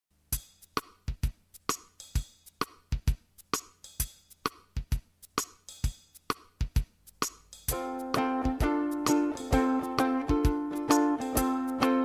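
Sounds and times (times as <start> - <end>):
drum beat of kick and snare: 0.2 - 12.0.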